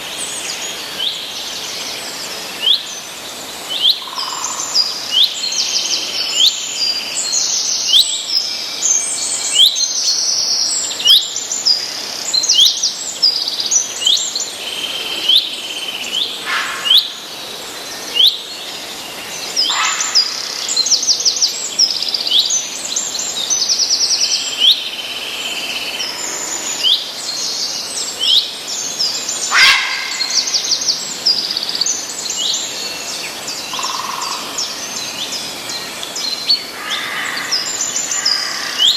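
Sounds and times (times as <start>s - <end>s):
faint steady hiss: 0.0s - 38.9s
songbirds chirping and singing: 0.0s - 38.9s.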